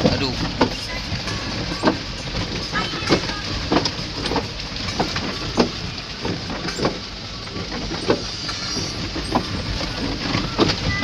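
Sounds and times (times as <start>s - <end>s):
truck engine rumbling: 0.0s - 11.0s
truck knocking over stones: 0.0s - 11.0s.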